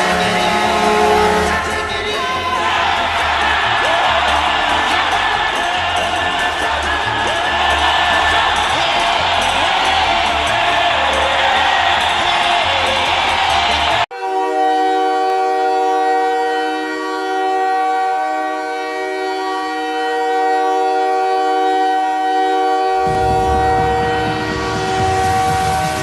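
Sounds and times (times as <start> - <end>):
music: 0.0 - 16.8, 18.4 - 26.0
loud air horn chord: 0.0 - 26.0.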